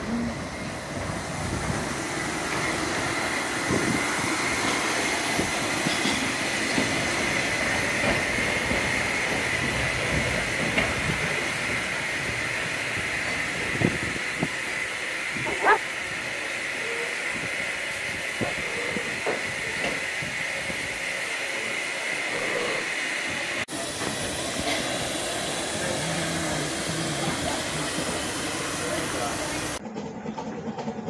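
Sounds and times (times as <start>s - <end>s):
steam hiss: 0.0s - 29.8s
train wheels on rail: 0.0s - 31.0s.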